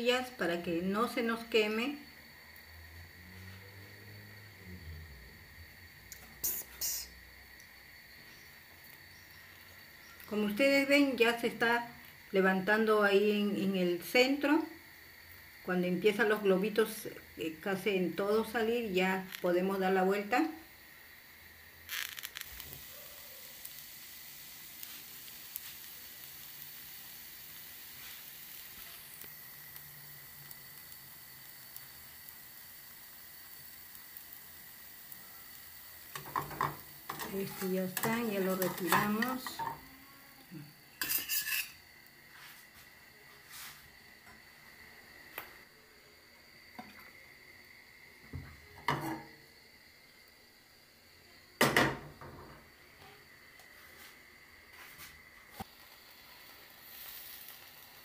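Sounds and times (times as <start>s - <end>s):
faint high whine: 0.0s - 58.0s
tortilla sizzling in a frying pan: 0.0s - 58.0s.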